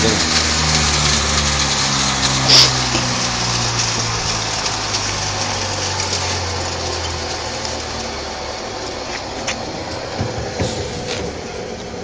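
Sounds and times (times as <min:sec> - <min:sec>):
sawdust machine rushing: 0:00.0 - 0:12.0.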